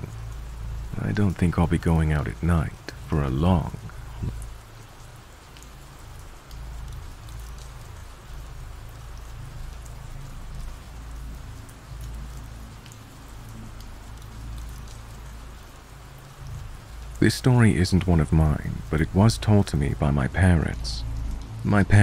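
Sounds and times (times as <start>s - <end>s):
rain hissing: 0.0s - 22.0s
raindrop ticks: 0.0s - 22.0s.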